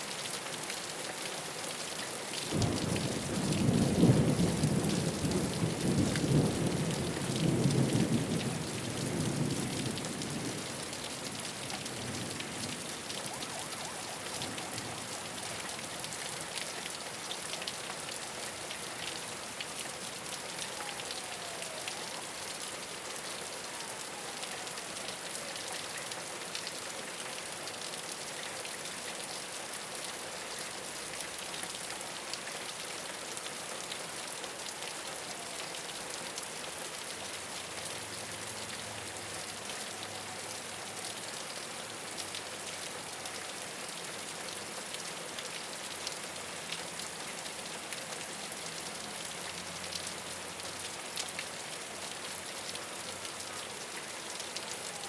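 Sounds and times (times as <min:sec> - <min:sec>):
rain on a rooftop: 0:00.0 - 0:55.0.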